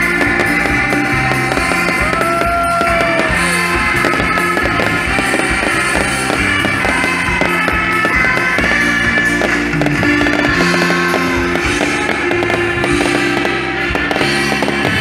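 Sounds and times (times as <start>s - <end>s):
fireworks crackling and popping: 0.0s - 15.0s
music: 0.0s - 15.0s.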